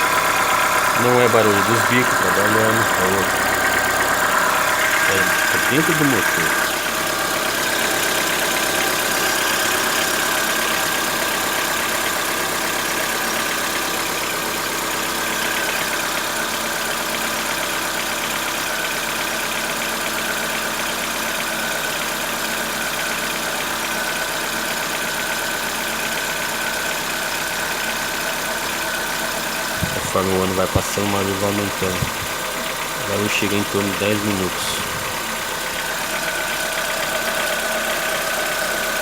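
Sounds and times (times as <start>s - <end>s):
car engine idling with clatter: 0.0s - 39.0s.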